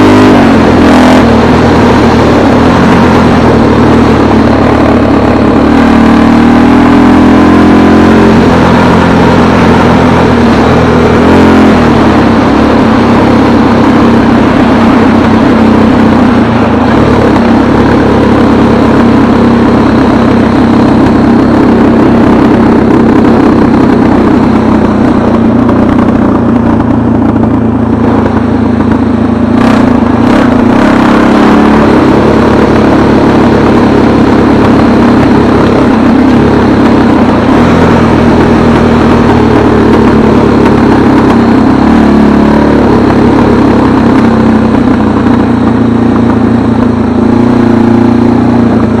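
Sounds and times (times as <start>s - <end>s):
engine running loud: 0.0s - 49.0s.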